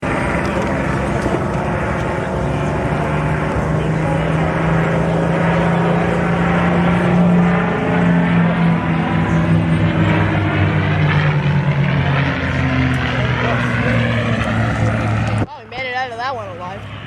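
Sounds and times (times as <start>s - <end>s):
propeller aircraft engine flypast: 0.0s - 17.0s.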